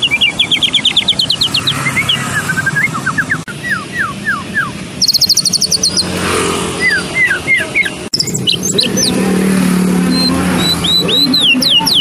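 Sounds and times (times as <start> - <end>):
bird singing whistled notes: 0.0 - 6.2, 6.8 - 9.2, 10.0 - 12.0.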